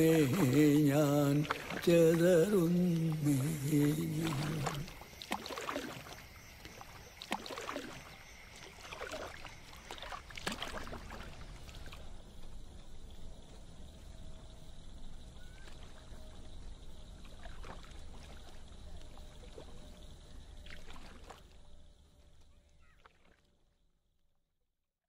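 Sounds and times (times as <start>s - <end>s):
small splashes and drips: 0.0s - 12.9s, 15.4s - 23.9s
water lapping: 0.0s - 14.0s, 15.0s - 23.8s.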